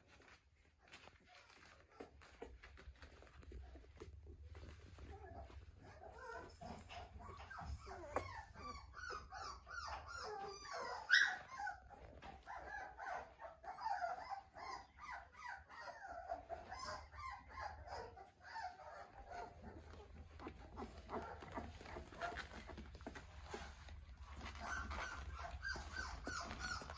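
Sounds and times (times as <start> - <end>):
puppies whimpering and squeaking: 0.0 - 26.9.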